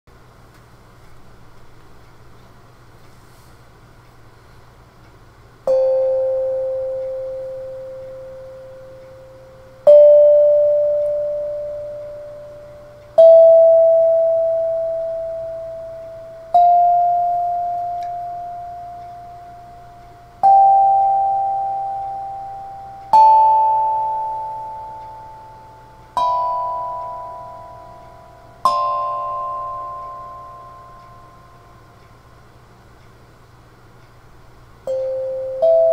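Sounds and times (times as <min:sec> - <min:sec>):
steel tongue drum notes: 0:05.6 - 0:33.2, 0:34.0 - 0:35.9.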